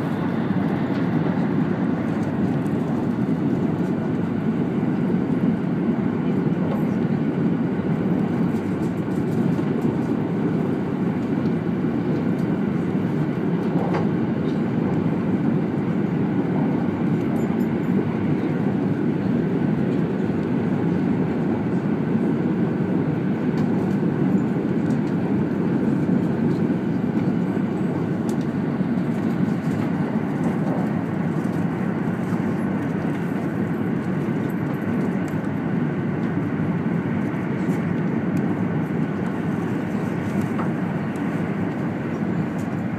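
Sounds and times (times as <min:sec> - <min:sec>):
train cabin rumble: 0:00.0 - 0:42.9.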